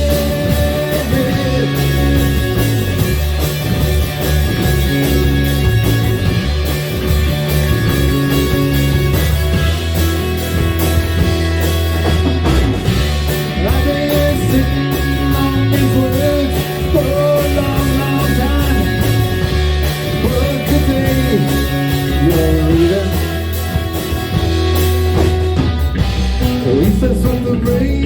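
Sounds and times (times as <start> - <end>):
bass guitar: 0.0 - 28.0
drums: 0.0 - 28.0
electric guitar bending notes: 0.0 - 28.0.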